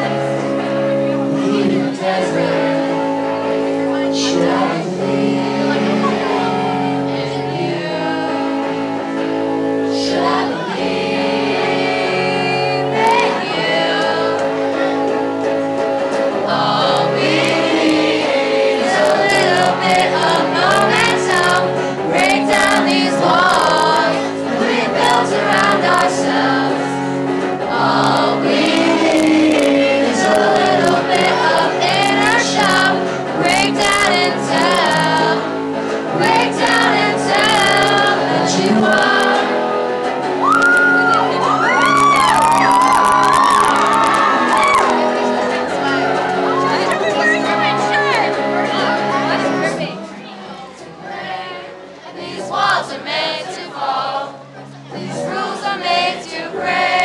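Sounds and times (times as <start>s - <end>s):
electric guitar: 0.0s - 52.1s
person singing: 0.0s - 54.3s.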